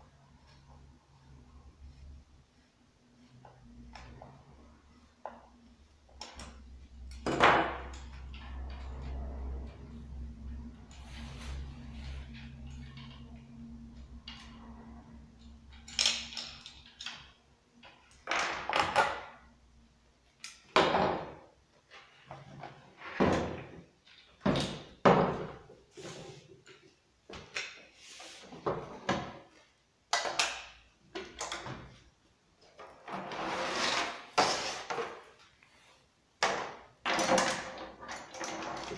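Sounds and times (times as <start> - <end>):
knocks clicks and scrapes of parts: 5.2 - 19.4, 20.4 - 35.8, 36.4 - 38.9.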